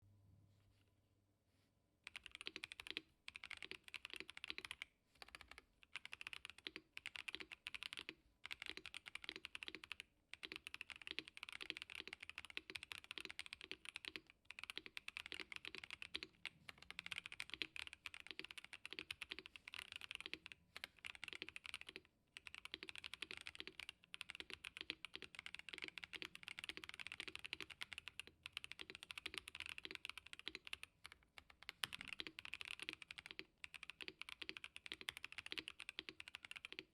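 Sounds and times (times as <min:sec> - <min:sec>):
fast mechanical keyboard typing: 0:02.1 - 0:36.9.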